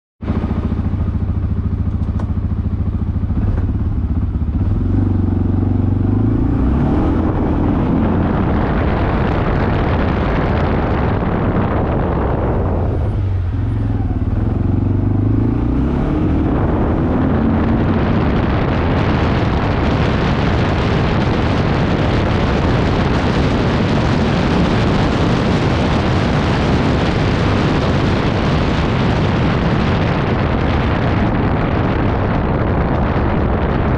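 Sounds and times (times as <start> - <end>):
atv engine running: 0.2 - 33.9
steady rushing noise: 0.2 - 33.9.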